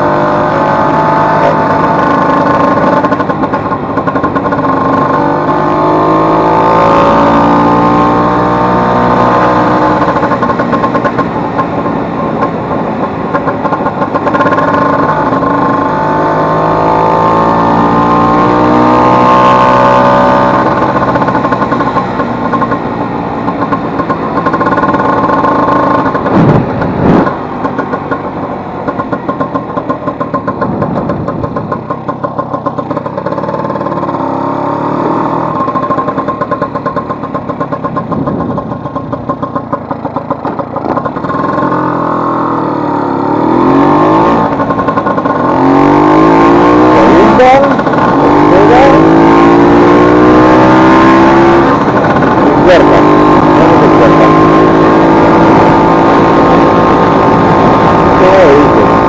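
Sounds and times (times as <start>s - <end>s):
scooter engine revving: 0.0s - 59.0s.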